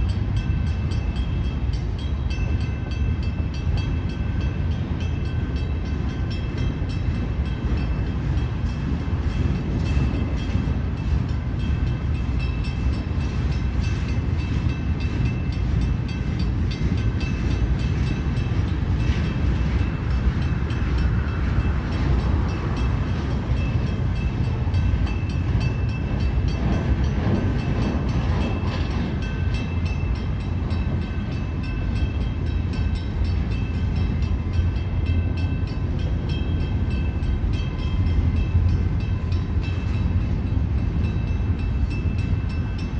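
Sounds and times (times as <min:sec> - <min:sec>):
train cars rolling past: 0:00.0 - 0:42.9.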